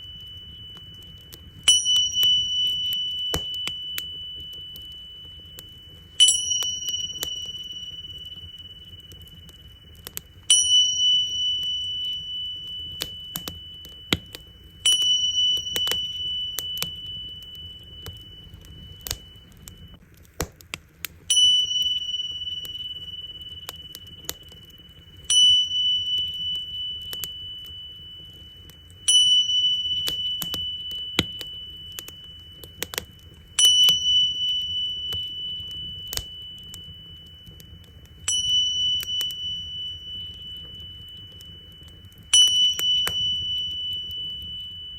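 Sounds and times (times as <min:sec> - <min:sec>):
tingsha cymbals ringing: 0:00.0 - 0:20.0, 0:21.3 - 0:44.9
wood fire crackling: 0:00.0 - 0:44.9.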